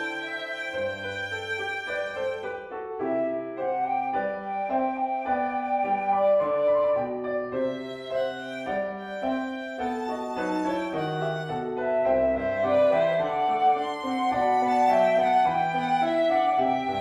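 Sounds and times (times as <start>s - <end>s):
flute violin and piano music: 0.0s - 17.0s.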